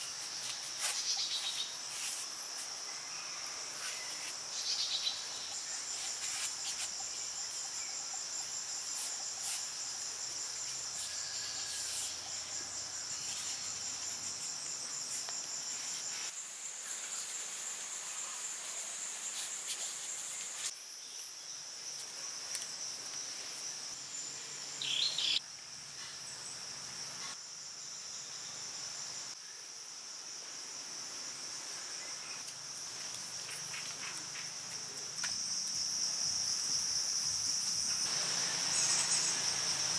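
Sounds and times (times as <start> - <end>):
insects chirping high-pitched: 0.0 - 39.9.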